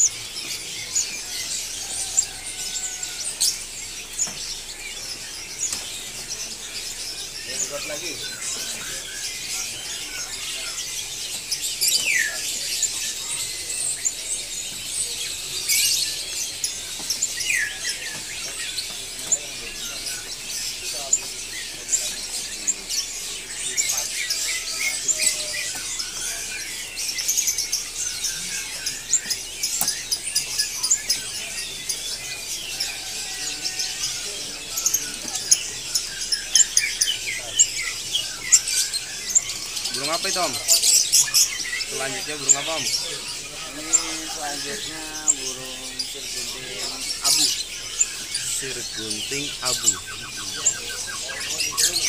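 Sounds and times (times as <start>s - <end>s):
songbirds chirping and twittering: 0.0s - 52.0s.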